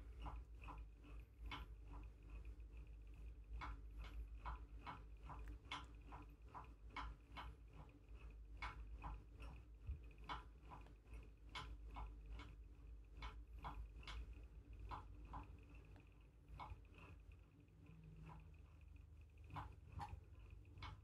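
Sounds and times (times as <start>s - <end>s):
faint even ticking: 0.0s - 21.0s
low steady hum: 0.0s - 21.0s.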